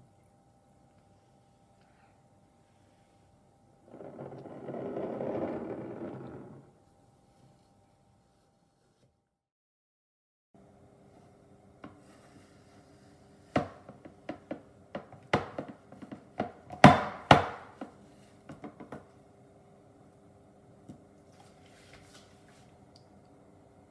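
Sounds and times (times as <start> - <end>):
faint steady hum: 0.0 - 9.3, 10.6 - 23.9.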